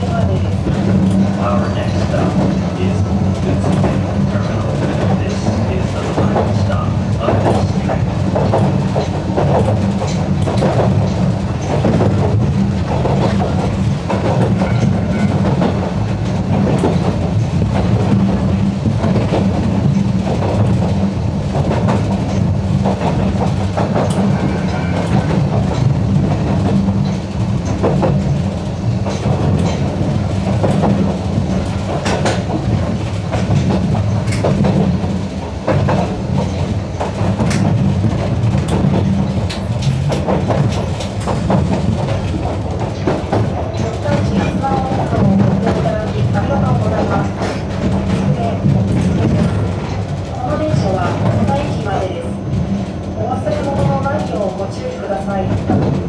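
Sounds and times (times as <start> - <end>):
train rumble: 0.0 - 56.0
wheels clicking over rail joints: 0.0 - 56.0.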